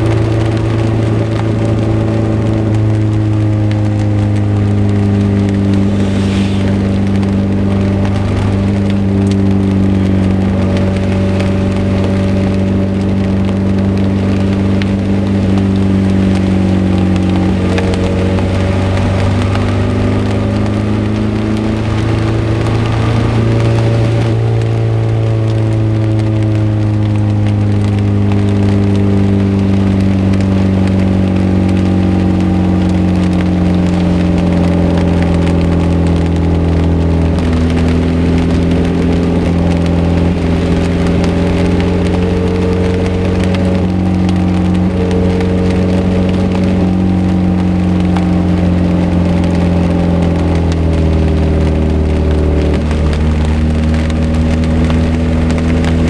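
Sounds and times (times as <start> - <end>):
car engine running: 0.0 - 56.0
rain crackling on car: 0.0 - 56.0.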